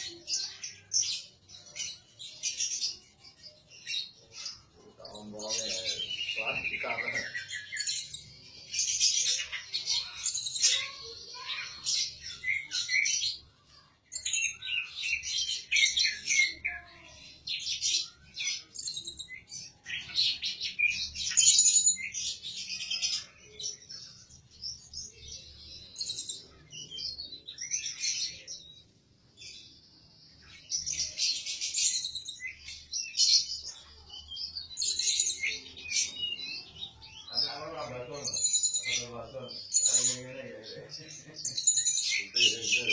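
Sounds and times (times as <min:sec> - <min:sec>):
songbird chirping and trilling: 0:00.0 - 0:42.9.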